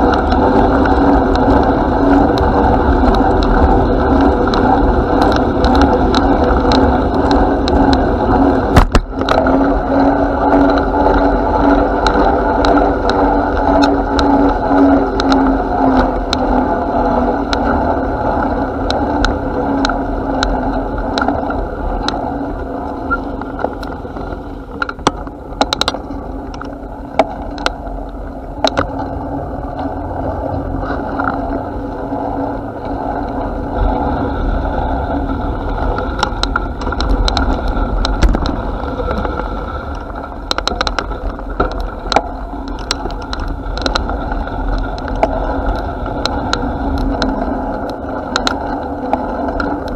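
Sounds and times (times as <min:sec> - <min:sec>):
bicycle clicks and rattles: 0:00.0 - 0:49.9
bicycle rolling rumble: 0:00.0 - 0:49.9.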